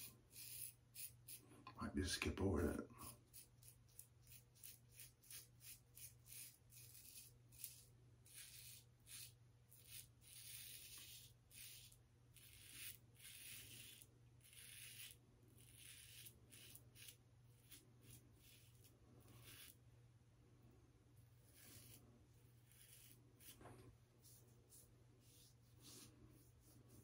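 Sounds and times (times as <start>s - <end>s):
razor scraping stubble: 0.0s - 1.5s, 2.6s - 19.8s, 21.3s - 27.0s.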